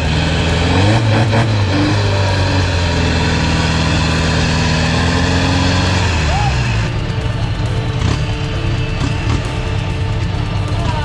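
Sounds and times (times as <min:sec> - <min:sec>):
diesel engine running hard: 0:00.0 - 0:11.0
tyres churning through mud: 0:00.0 - 0:11.0.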